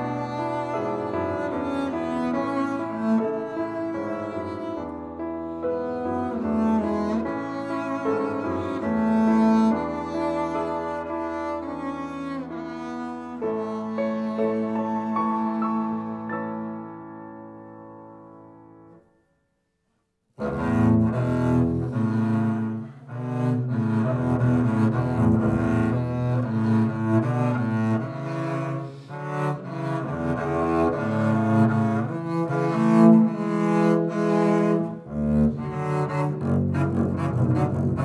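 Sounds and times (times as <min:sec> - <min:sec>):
bowed double bass: 0:00.0 - 0:17.6, 0:20.4 - 0:38.0
grand piano playing: 0:00.0 - 0:19.1, 0:20.4 - 0:38.0.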